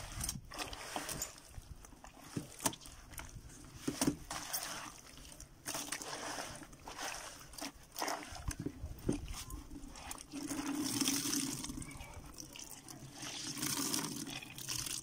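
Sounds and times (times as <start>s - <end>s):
wet cloth squelching in slurry: 0.0s - 15.0s.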